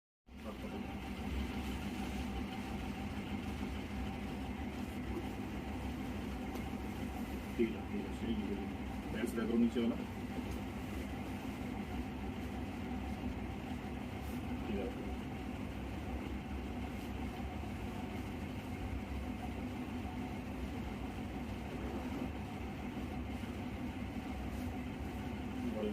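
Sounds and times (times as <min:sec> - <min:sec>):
low mechanical hum: 0:00.3 - 0:25.9.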